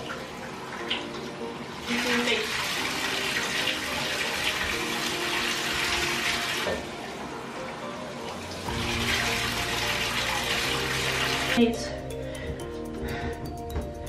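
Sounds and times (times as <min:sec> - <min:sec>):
water running into bathtub: 0:00.0 - 0:11.6.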